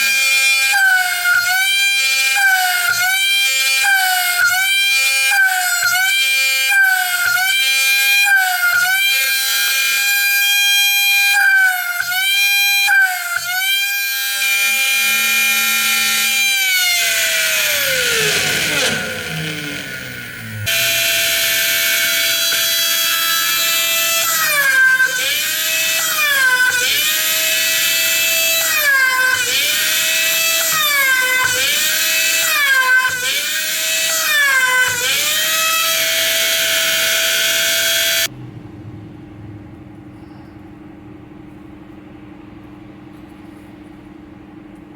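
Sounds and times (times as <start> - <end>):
small drill motor whining: 0.0 - 38.3.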